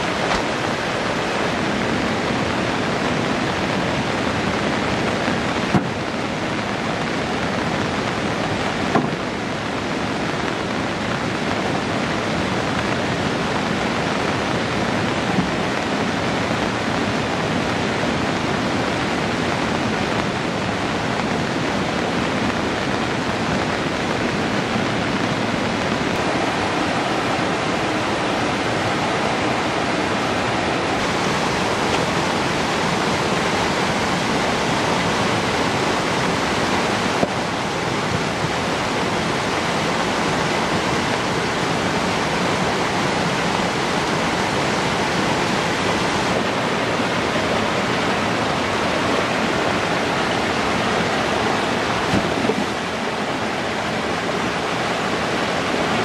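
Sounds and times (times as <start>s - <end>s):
flood water rushing: 0.0s - 56.0s.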